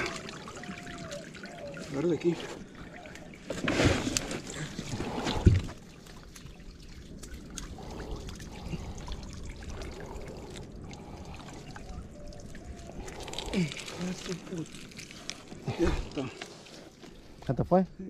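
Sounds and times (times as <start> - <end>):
water splashing and sloshing: 0.0 - 17.8.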